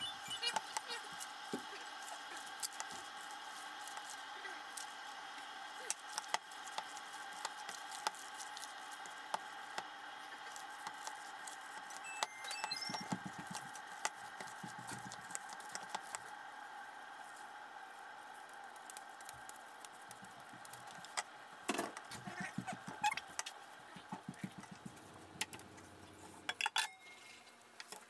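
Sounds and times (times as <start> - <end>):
steady hum: 0.0 - 28.0
hands kneading wet meat: 0.4 - 26.5.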